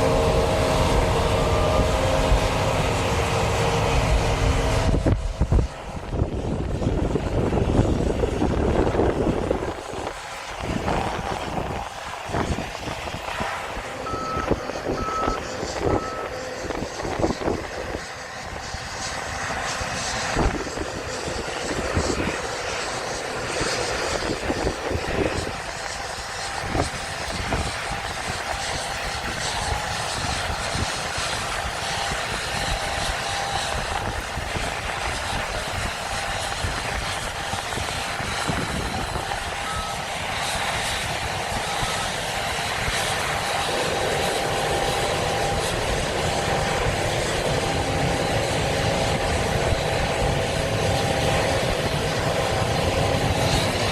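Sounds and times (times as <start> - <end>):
combine harvester engine drone: 0.0 - 53.9.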